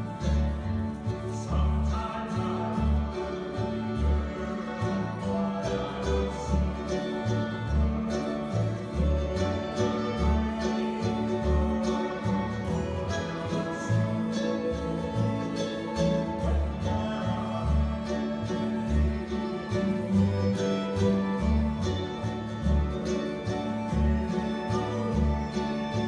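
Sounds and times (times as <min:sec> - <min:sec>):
strummed acoustic guitars: 0:00.0 - 0:26.0
upright bass plucking: 0:00.0 - 0:26.0
voices singing: 0:00.0 - 0:26.0.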